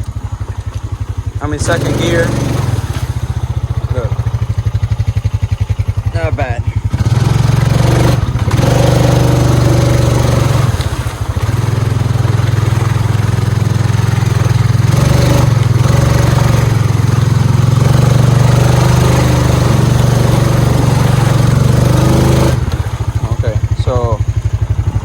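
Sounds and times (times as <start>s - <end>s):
atv engine pulling under load: 0.0s - 25.0s.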